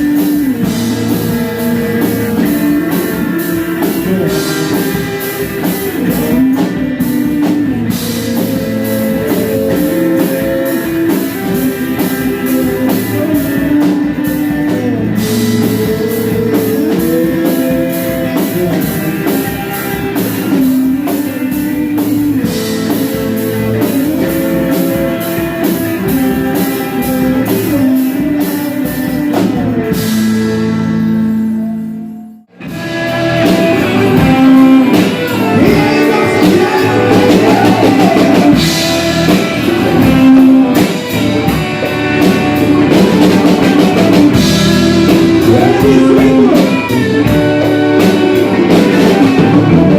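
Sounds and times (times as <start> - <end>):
bass: 0.0 - 49.9
drum kit with cymbals: 0.0 - 49.9
guitar melody: 0.0 - 49.9.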